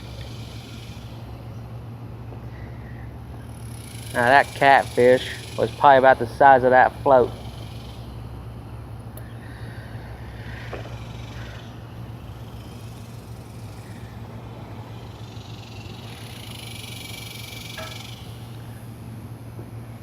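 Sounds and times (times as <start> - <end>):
air conditioner humming: 0.0 - 20.0.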